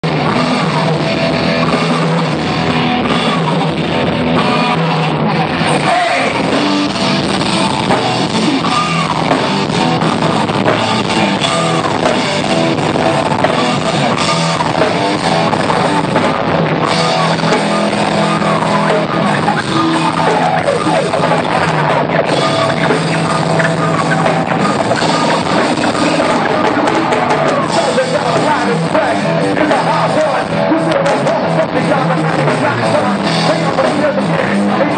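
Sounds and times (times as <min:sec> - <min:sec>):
drum kit: 0:00.0 - 0:34.9
electric guitar: 0:00.0 - 0:34.9
person singing: 0:04.4 - 0:34.9.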